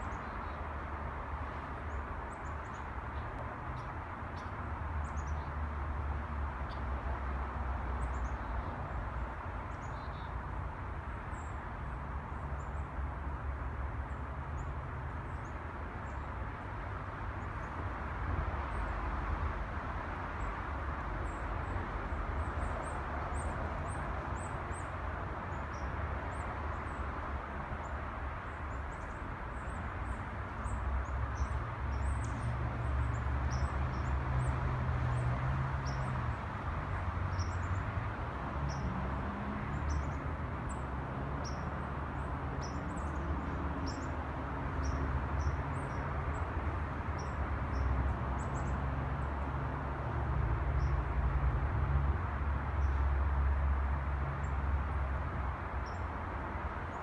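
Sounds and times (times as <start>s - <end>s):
distant traffic rumble: 0.0s - 57.0s.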